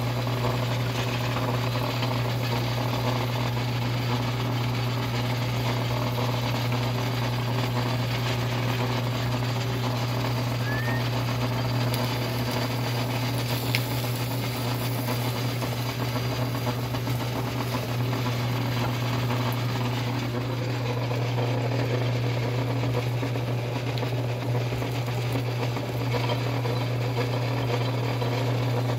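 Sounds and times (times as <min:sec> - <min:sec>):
sugarcane mill humming: 0:00.0 - 0:28.9.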